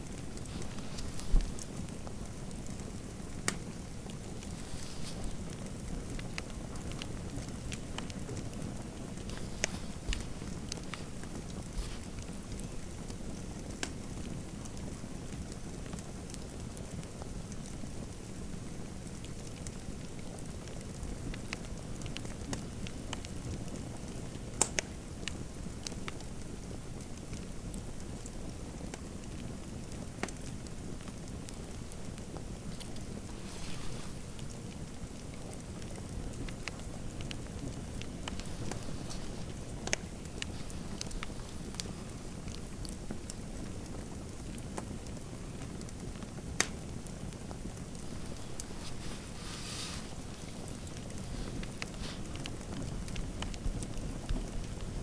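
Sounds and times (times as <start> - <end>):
fire crackling and popping: 0.0 - 55.0
low rumble of burning: 0.0 - 55.0.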